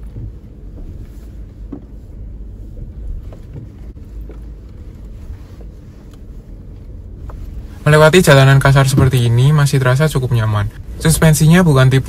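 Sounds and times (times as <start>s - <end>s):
car engine rumble in cabin: 0.0s - 12.0s.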